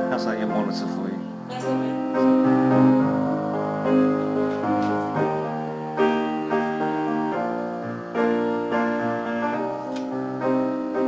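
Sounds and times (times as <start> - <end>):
grand piano chords: 0.0 - 11.0.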